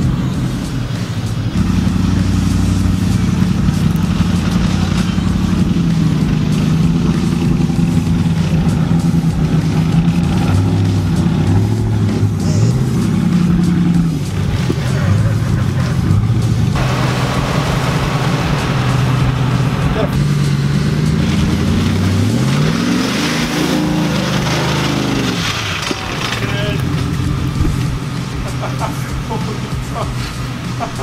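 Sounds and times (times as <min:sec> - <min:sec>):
music with bass line: 0:00.0 - 0:31.0
truck engines under load: 0:00.0 - 0:31.0.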